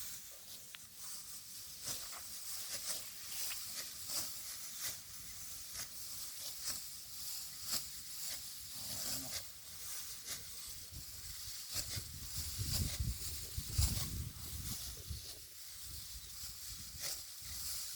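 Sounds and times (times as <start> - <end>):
rice stalks rustling swishes: 0.0 - 17.9.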